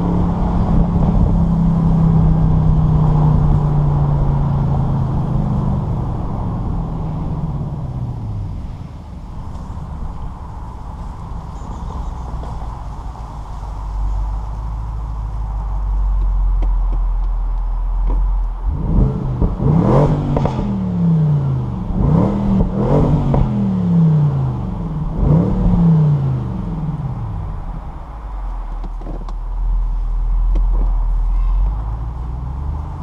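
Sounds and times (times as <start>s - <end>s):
car engine rumbling and revving: 0.0s - 33.0s
exhaust crackles: 0.0s - 33.0s.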